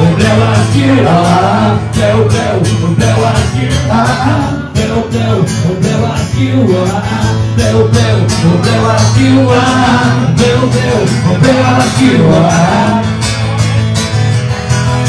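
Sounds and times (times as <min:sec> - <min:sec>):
man singing into microphone: 0:00.0 - 0:13.6
acoustic guitar strumming: 0:00.0 - 0:15.0.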